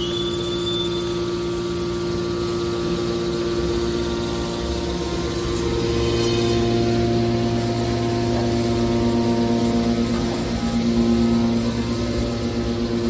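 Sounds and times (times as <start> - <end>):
high-pitched whine: 0.0 - 13.0
hydraulic motor and pump humming: 0.0 - 13.0.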